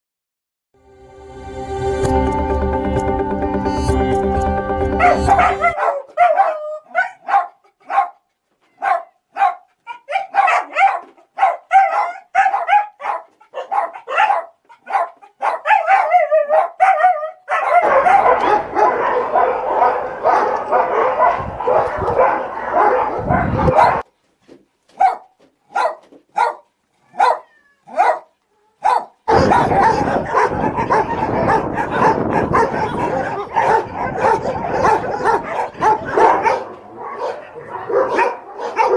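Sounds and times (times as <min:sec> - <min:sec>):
dogs barking and yipping: 0:04.8 - 0:24.1, 0:24.9 - 0:38.9
many dogs barking at once: 0:05.0 - 0:08.2, 0:08.8 - 0:24.1, 0:25.0 - 0:26.6, 0:27.2 - 0:38.9.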